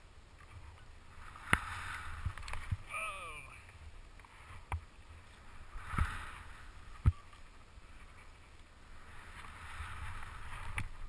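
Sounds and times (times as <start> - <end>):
skis swishing through snow: 0.4 - 2.9, 4.3 - 11.0.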